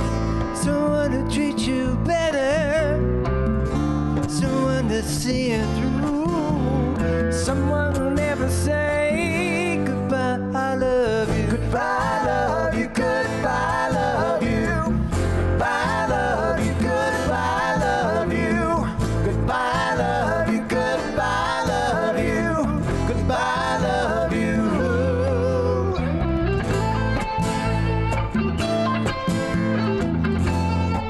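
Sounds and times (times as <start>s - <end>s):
bass guitar: 0.0s - 31.0s
guitars: 0.0s - 31.0s.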